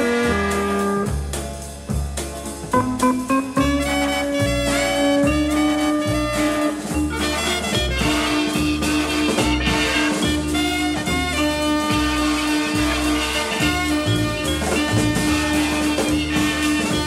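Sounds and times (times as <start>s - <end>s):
big band orchestra music: 0.0s - 17.0s.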